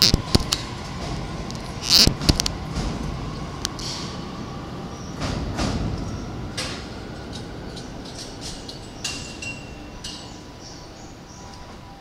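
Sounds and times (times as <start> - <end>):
wheels clacking over rail joints: 0.0 - 11.9
electric train running rumble: 0.0 - 12.0.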